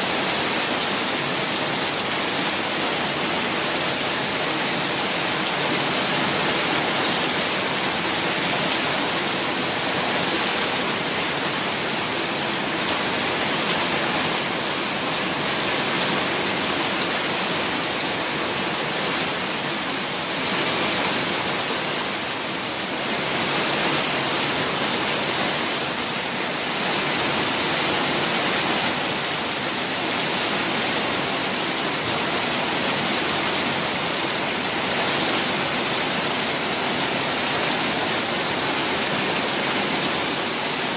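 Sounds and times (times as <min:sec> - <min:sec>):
water rushing and splashing: 0:00.0 - 0:40.9.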